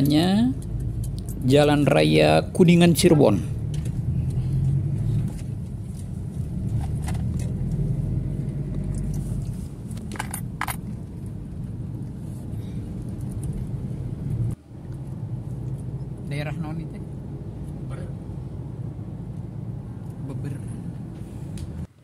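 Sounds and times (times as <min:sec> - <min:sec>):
tyres on road: 0:00.0 - 0:22.0
vehicle engine rumble: 0:00.0 - 0:22.0.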